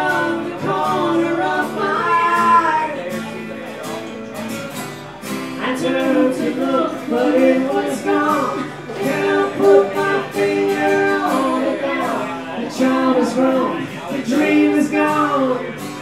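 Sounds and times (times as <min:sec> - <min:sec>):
man and woman singing together: 0:00.0 - 0:03.3, 0:05.6 - 0:16.0
strummed acoustic guitars: 0:00.0 - 0:16.0.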